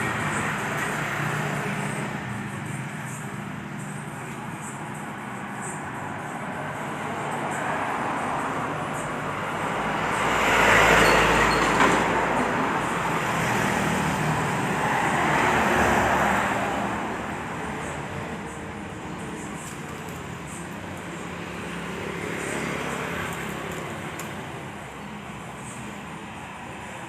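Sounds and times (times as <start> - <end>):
steady traffic hum: 0.0 - 27.0.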